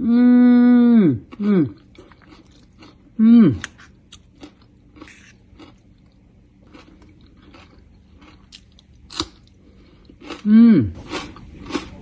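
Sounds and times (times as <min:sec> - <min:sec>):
person chewing crunchy salad: 0:01.2 - 0:12.0.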